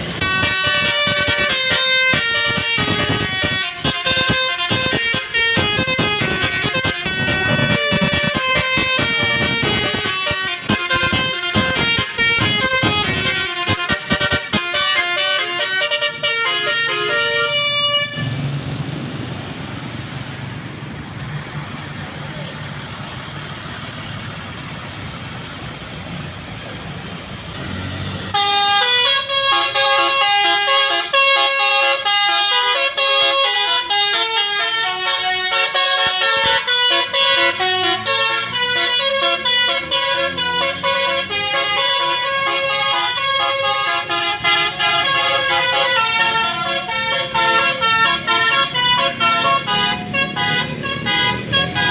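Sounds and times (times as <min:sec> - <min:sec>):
musical air horns melody: 0:00.0 - 0:18.4, 0:27.6 - 0:51.9
engine and road rumble: 0:00.0 - 0:51.9.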